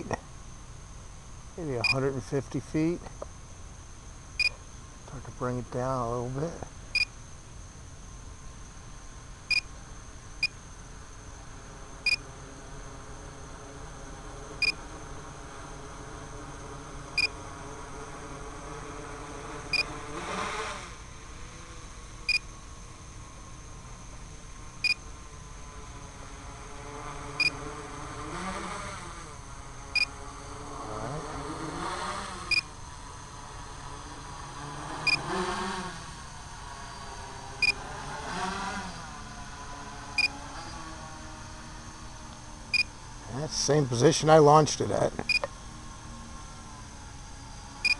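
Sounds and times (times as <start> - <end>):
drone motors and propellers humming: 0.0 - 47.9.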